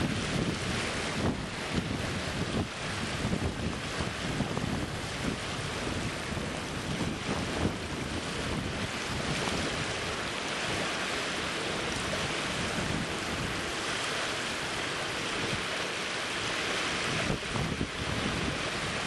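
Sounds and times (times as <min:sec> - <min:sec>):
waves washing and splashing: 0:00.0 - 0:19.0
wind buffeting microphone: 0:00.0 - 0:19.0.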